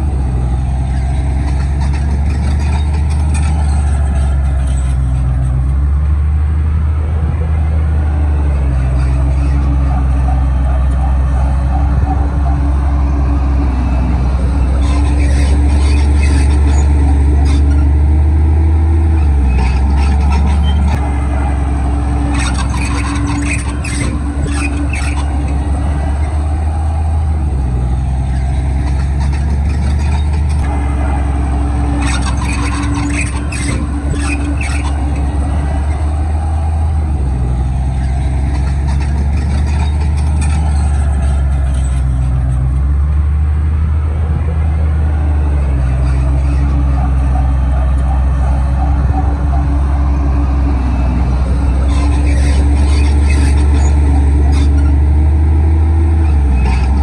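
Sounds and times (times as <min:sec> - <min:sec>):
bulldozer diesel engine under load: 0:00.0 - 0:57.0
metallic clanking and squealing tracks: 0:00.0 - 0:57.0.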